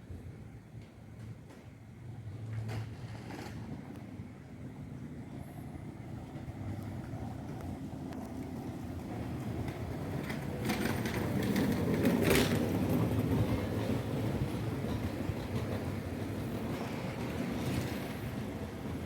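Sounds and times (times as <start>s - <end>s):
train wheels clattering on rails: 0.7s - 4.3s, 6.2s - 19.0s.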